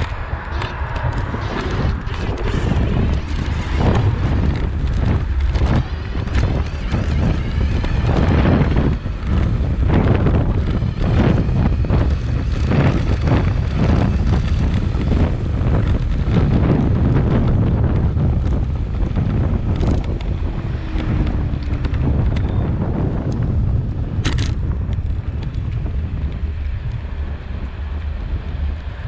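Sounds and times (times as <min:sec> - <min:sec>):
tyres rumbling on asphalt: 0:00.0 - 0:29.0
wind buffeting microphone: 0:00.0 - 0:29.0.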